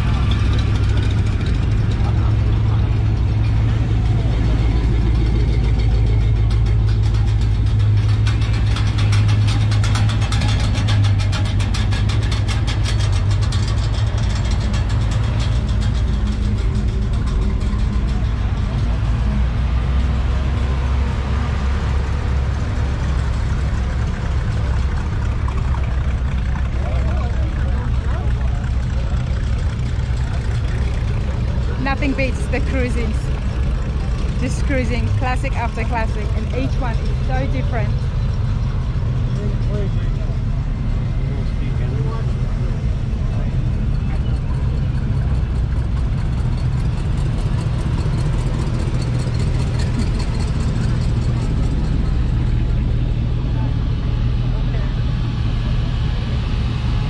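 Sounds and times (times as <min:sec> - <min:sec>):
car engines idling: 0:00.0 - 0:57.0.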